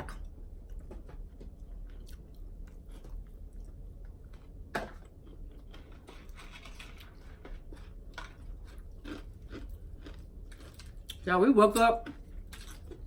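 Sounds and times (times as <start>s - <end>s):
person chewing and crunching food: 0.2s - 11.3s, 12.0s - 13.0s.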